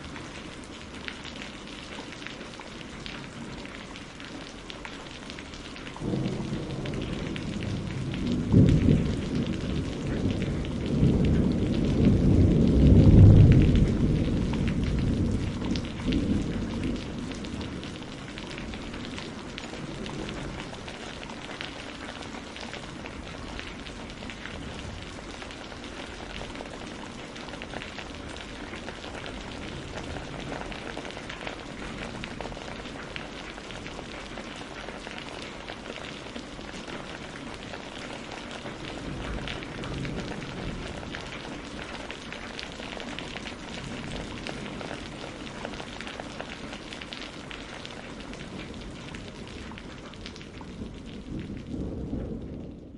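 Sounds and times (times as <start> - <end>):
steady rain falling: 0.0 - 52.9
low rumble of thunder: 6.0 - 52.9.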